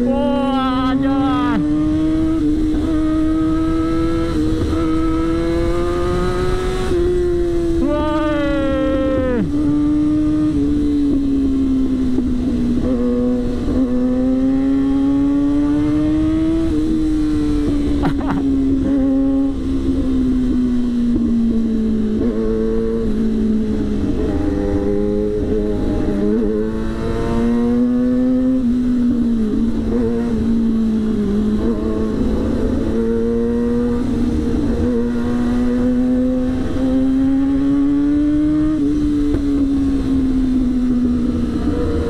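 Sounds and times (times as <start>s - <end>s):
motorcycle engine at high revs: 0.0s - 42.0s
second motorcycle engine revving: 0.9s - 42.0s.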